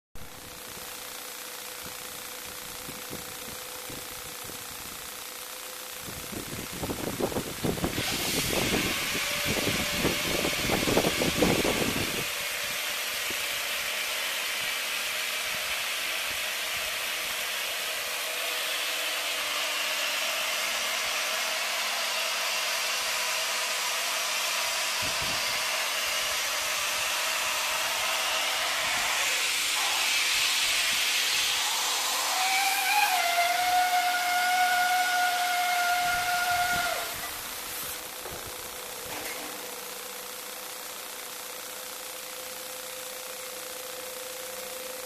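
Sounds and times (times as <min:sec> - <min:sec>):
hot air blower hissing: 0:00.2 - 0:45.0.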